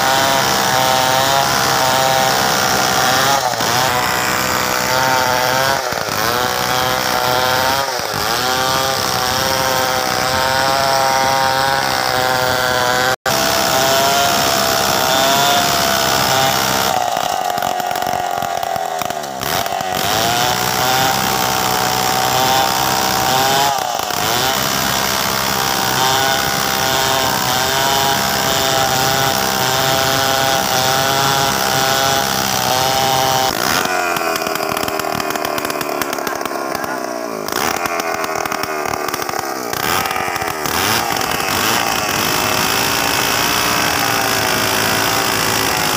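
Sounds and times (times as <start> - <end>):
chainsaw cutting log: 0.0 - 45.9.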